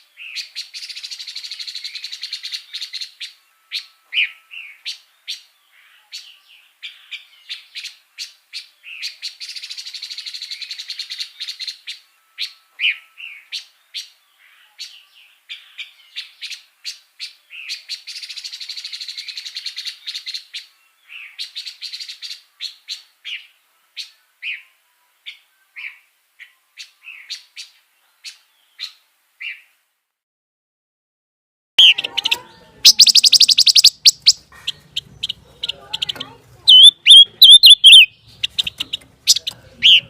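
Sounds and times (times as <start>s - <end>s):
songbird singing: 0.0s - 29.7s, 31.8s - 40.0s.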